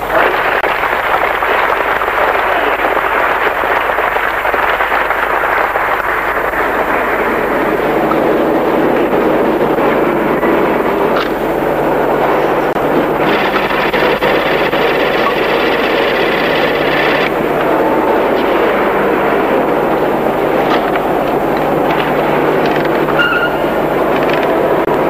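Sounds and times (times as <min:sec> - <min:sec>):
large hall ambience: 0:00.0 - 0:25.0.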